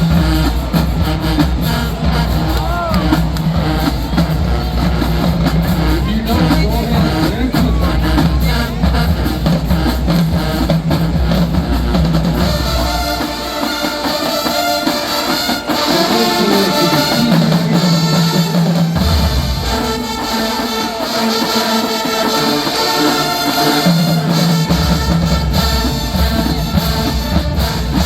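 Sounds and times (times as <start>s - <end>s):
marching band playing: 0.0s - 28.0s.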